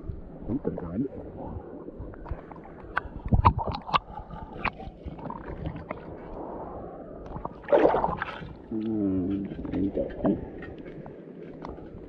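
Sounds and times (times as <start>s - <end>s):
shallow water sloshing: 0.0s - 12.0s.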